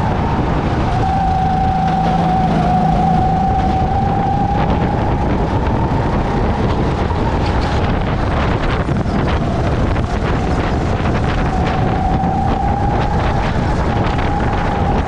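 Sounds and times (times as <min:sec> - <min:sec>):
kart engine whine: 0:00.0 - 0:15.0
wind noise on microphone: 0:00.0 - 0:15.0.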